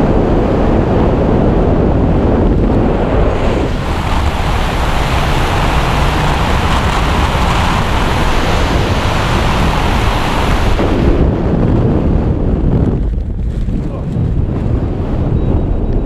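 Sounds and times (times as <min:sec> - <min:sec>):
wind roaring over microphone: 0:00.0 - 0:16.0.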